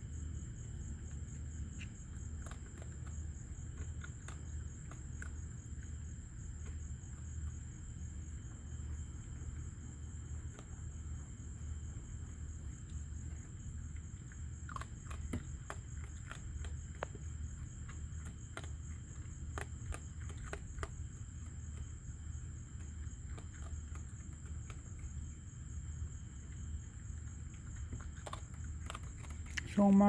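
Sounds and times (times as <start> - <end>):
raccoon chewing food: 0.0 - 30.0.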